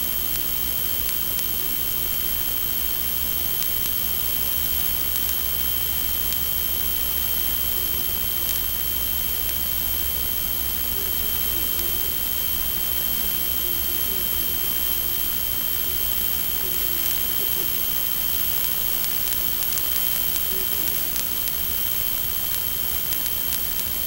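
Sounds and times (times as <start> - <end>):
faint ticks: 0.0 - 24.0
high-pitched whines: 0.0 - 24.0
steady hiss: 0.0 - 24.0.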